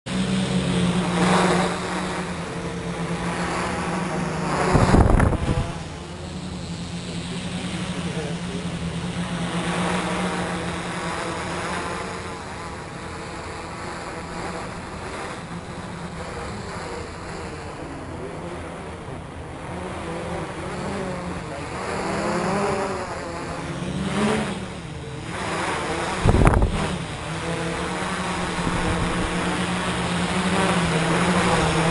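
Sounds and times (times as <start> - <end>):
quadcopter propellers buzzing: 0.0 - 31.9.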